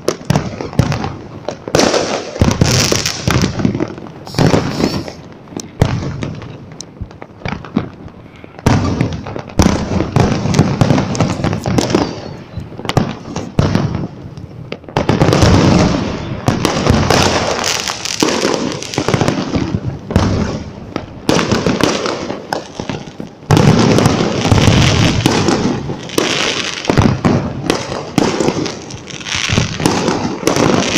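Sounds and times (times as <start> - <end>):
fireworks cracking and booming: 0.0 - 30.9.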